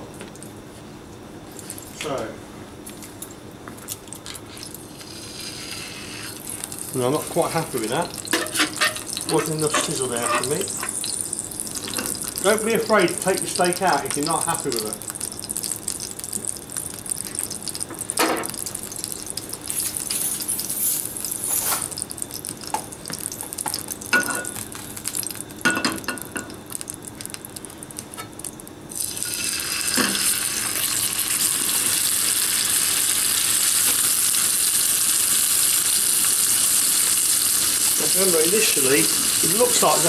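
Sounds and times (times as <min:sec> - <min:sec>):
steak sizzling in oil: 0:04.7 - 0:40.0.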